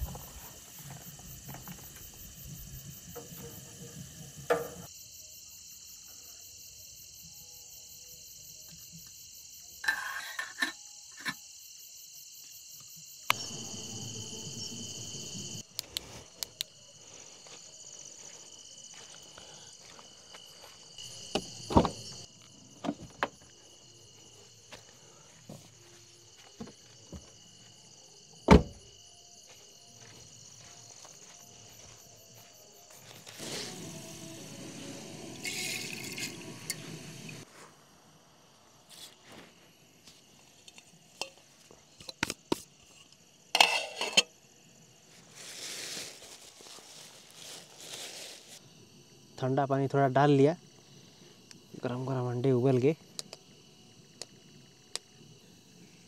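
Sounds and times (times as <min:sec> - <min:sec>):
night insects chirring: 0:00.0 - 0:56.0.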